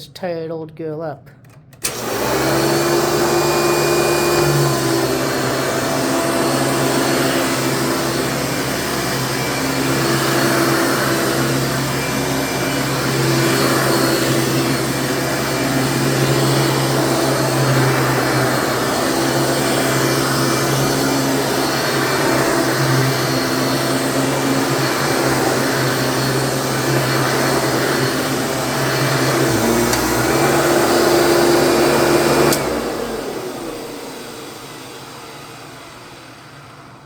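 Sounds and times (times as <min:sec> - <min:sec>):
vacuum cleaner running: 0:01.7 - 0:37.0.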